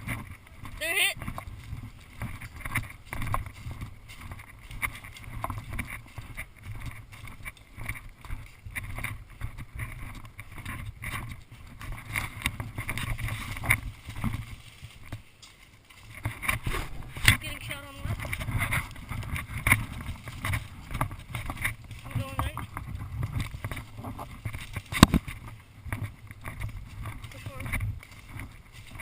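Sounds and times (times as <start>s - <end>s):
wind rumble: 0.0s - 29.0s.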